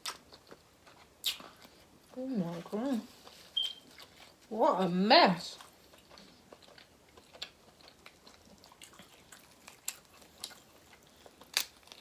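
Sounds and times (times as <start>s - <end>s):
chewing seafood: 0.0s - 4.5s, 5.6s - 12.0s.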